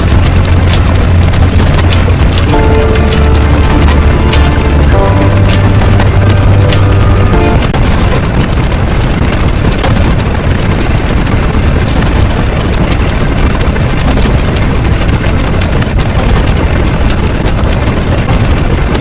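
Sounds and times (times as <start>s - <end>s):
distorted rumbling with crackling clicks: 0.0s - 19.0s.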